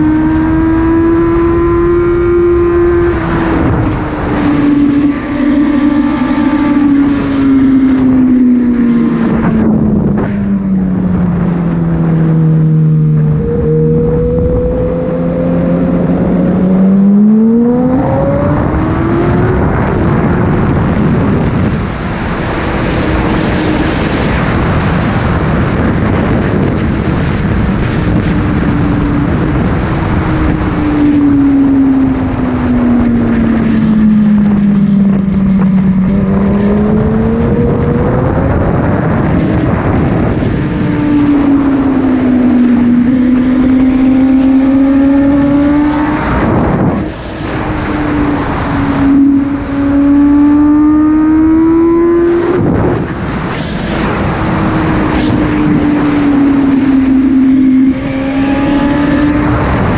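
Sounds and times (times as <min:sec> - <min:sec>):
motorcycle engine revving: 0:00.0 - 0:59.9
wind rush: 0:00.0 - 0:59.9.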